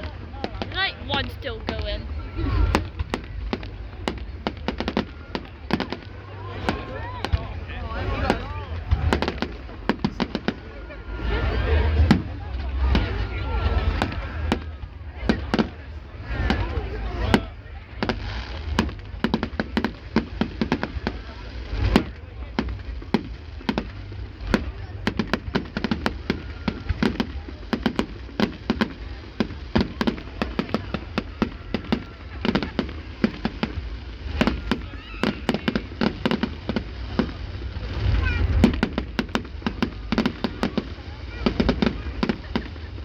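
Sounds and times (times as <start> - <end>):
faint voices: 0.0 - 43.0
fireworks bangs and crackles: 0.0 - 43.0.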